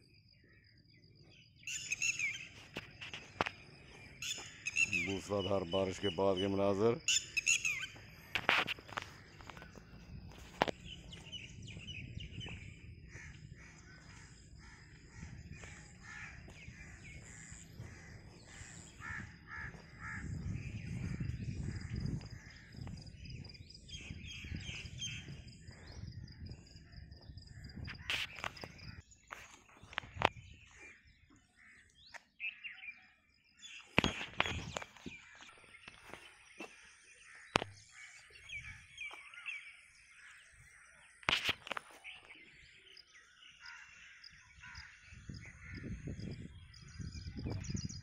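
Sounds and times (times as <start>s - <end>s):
birds calling: 0.0s - 48.0s.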